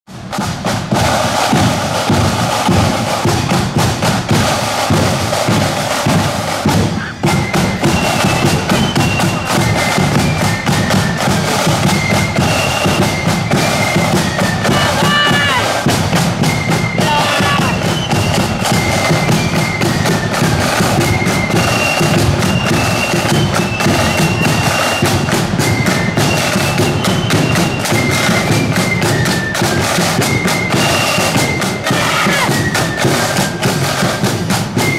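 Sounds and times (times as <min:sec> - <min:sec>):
marching drums beating: 0:00.1 - 0:34.9
flutes playing high tune: 0:00.6 - 0:34.9.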